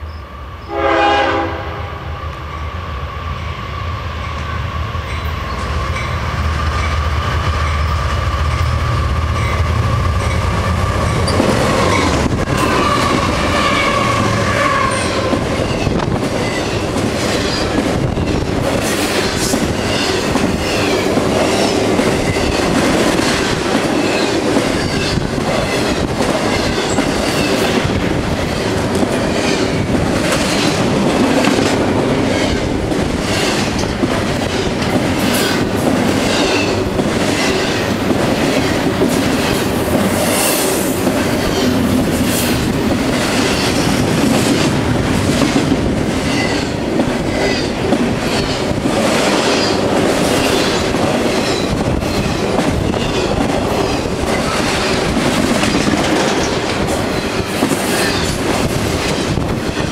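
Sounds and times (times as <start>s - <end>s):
freight train cars rumbling past: 0.0s - 59.9s.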